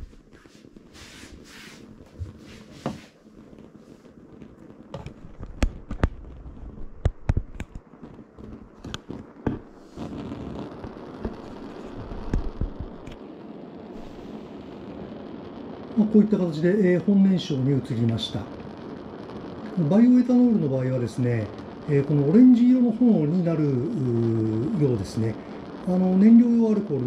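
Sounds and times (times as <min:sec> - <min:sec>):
priming flame popping and crackling: 0:00.0 - 0:27.0.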